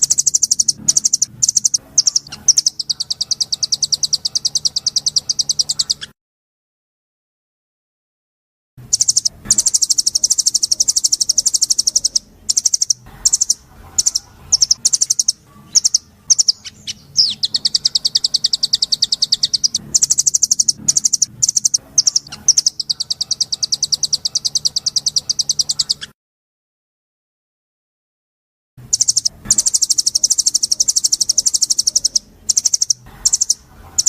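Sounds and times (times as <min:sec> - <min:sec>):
songbird singing rapid trills: 0:00.0 - 0:06.1, 0:08.9 - 0:26.1, 0:28.9 - 0:34.0.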